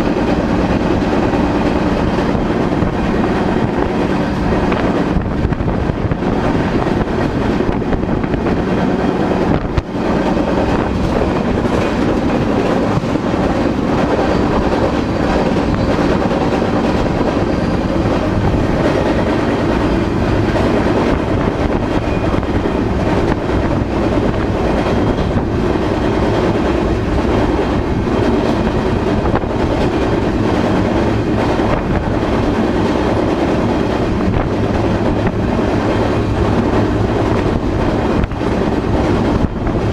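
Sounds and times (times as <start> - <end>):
freight train rumbling: 0.0 - 39.9
wheels clattering over rail joints: 0.0 - 39.9.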